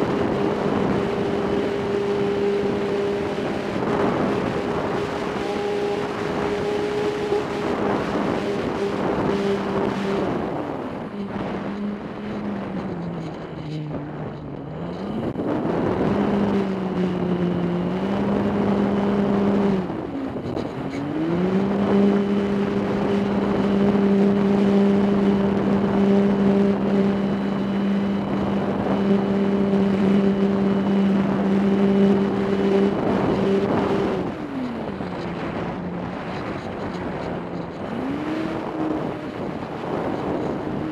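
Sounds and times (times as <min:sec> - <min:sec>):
model plane motor droning: 0:00.0 - 0:40.9
wind rushing over microphone: 0:00.0 - 0:40.9.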